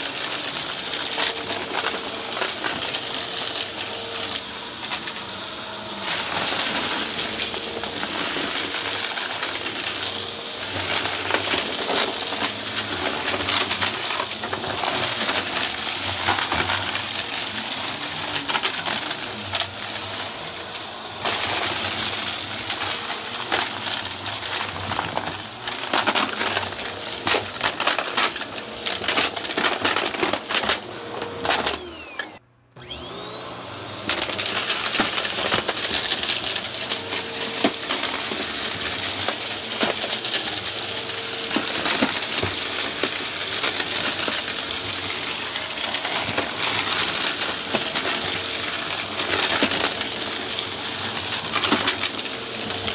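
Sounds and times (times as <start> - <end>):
crumbs crunching in vacuum: 0.0 - 32.2, 34.1 - 52.9
vacuum cleaner motor whine: 0.0 - 52.9.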